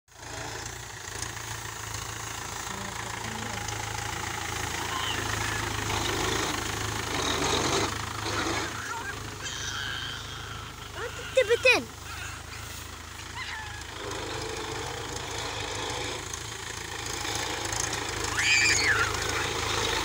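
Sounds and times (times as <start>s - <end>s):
tractor diesel engine running: 0.1s - 20.0s.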